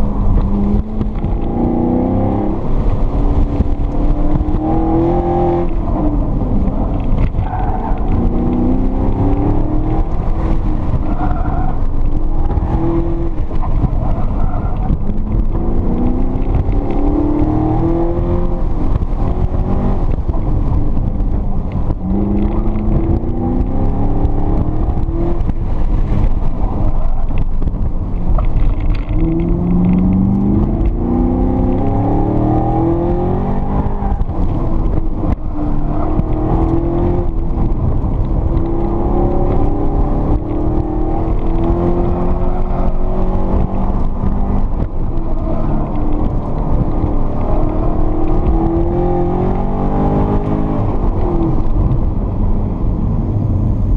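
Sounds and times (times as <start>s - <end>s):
car engine accelerating: 0.0s - 53.9s.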